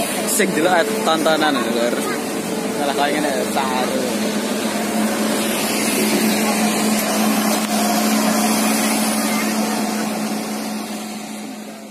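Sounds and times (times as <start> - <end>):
boat engine humming: 0.0 - 11.9
loud rushing noise: 0.0 - 11.9.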